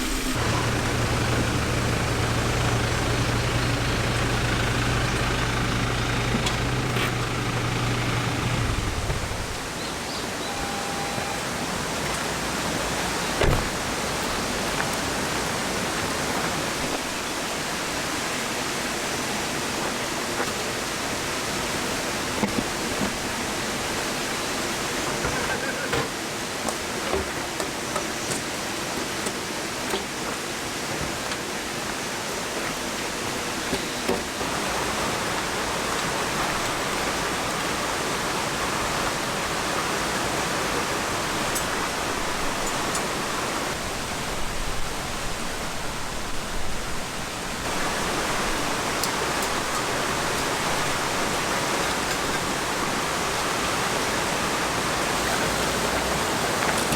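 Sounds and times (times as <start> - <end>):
flowing water rushing: 0.0 - 25.3, 26.1 - 56.9.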